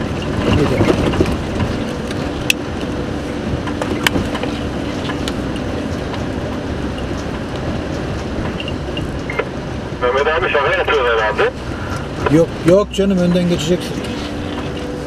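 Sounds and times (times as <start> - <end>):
vehicle engine hum and road noise: 0.0 - 15.0.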